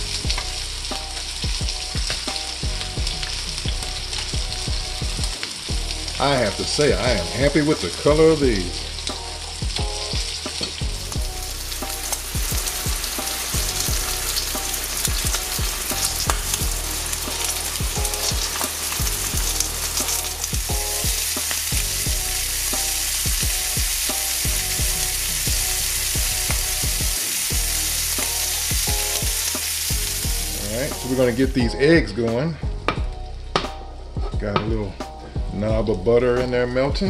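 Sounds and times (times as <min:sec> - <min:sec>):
food sizzling in hot oil: 0:00.0 - 0:31.9.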